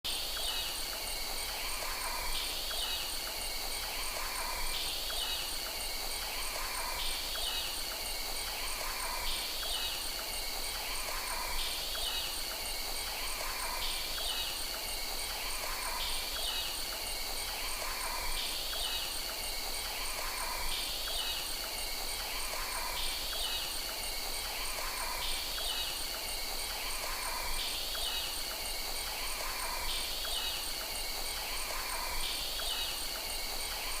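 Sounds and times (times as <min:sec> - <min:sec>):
insects trilling: 0:00.1 - 0:34.0.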